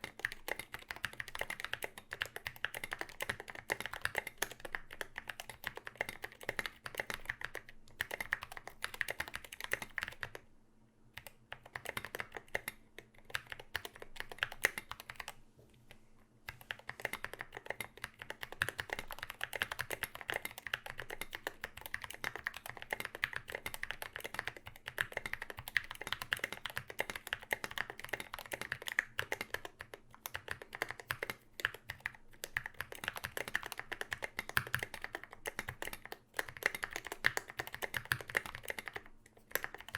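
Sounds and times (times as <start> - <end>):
mechanical keyboard typing: 0.0 - 10.4, 11.2 - 15.4, 16.5 - 39.9.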